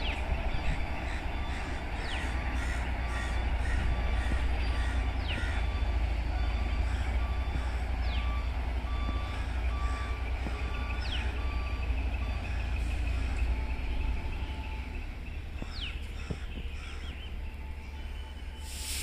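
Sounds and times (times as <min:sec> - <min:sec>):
passing train rumble: 0:00.0 - 0:19.0.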